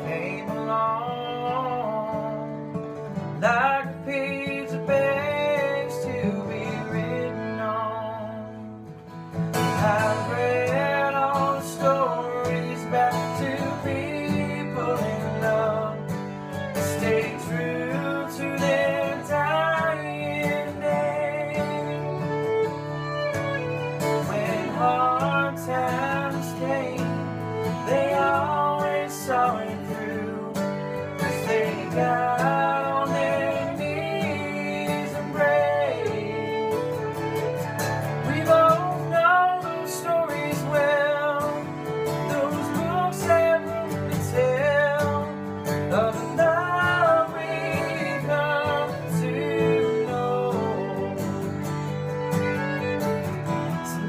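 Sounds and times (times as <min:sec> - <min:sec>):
man and woman singing: 0:00.0 - 0:02.6, 0:03.4 - 0:08.7, 0:09.7 - 0:51.6
acoustic guitar: 0:00.0 - 0:54.0
fiddle: 0:00.0 - 0:54.0.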